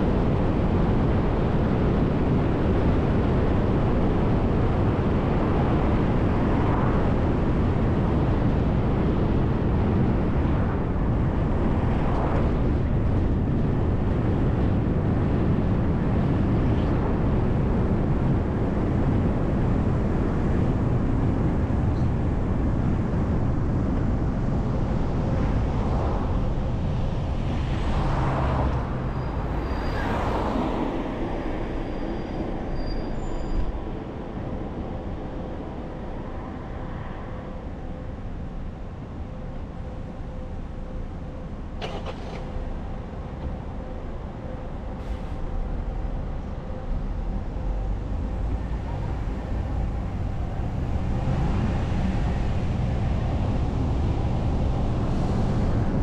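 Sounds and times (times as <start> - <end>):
bus engine and tyre noise: 0.0 - 56.0.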